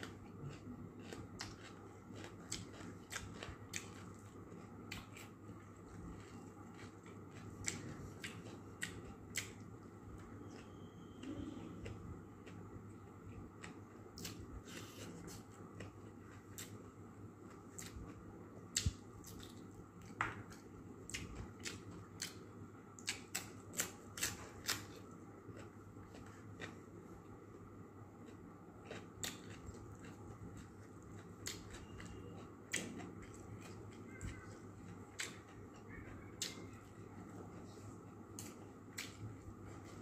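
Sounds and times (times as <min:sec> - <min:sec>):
chewing raw vegetables: 0:00.0 - 0:40.0.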